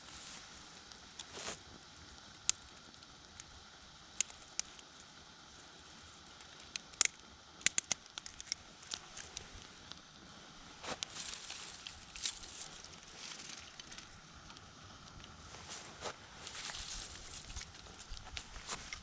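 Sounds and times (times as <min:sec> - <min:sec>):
faint steady hiss: 0:00.0 - 0:19.0
campfire crackling pops: 0:00.6 - 0:19.0.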